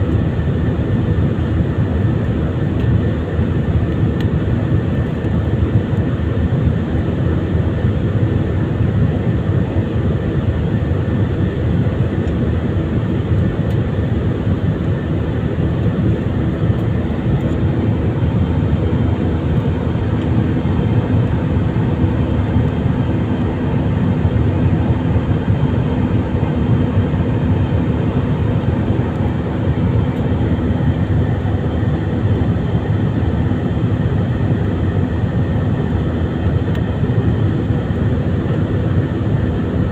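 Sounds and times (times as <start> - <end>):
jet engine drone in cabin: 0.0 - 39.9
steady hum tones: 0.0 - 39.9.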